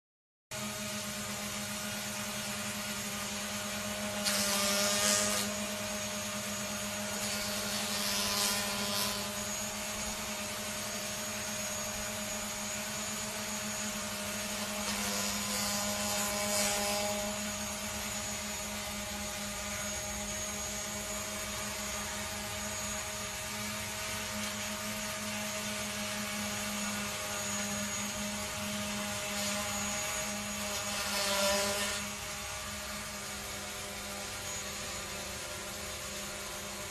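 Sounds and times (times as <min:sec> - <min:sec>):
drone propellers whining hum: 0:00.6 - 0:31.0, 0:31.6 - 0:36.9.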